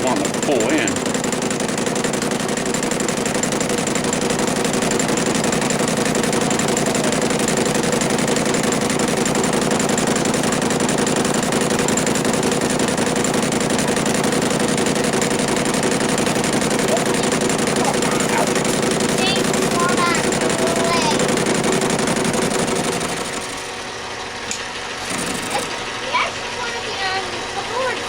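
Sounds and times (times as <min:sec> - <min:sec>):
metal lathe humming: 0:00.0 - 0:28.0.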